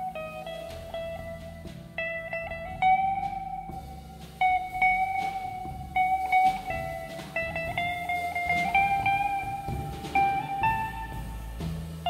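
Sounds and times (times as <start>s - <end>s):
drums: 0.0s - 12.0s
guitar melody: 0.0s - 12.0s
walking upright bass: 0.0s - 12.0s.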